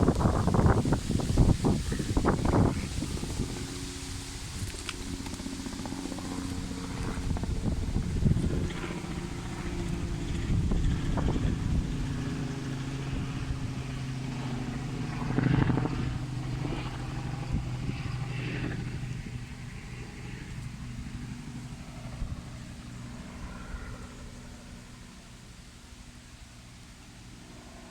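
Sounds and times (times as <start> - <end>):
engine running: 0.0 - 27.9.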